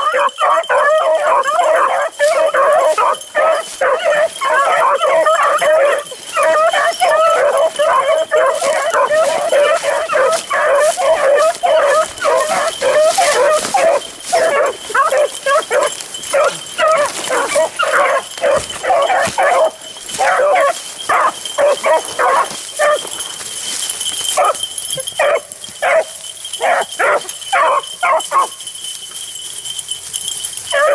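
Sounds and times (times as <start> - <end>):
beagles baying: 0.0 - 30.9.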